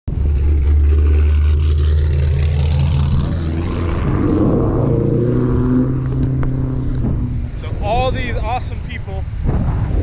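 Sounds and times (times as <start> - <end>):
car engine rumbling at low revs: 0.1 - 10.0.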